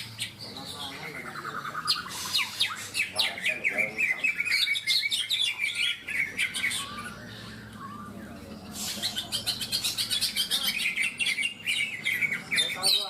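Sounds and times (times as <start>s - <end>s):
birds chirping and warbling: 0.0s - 13.0s.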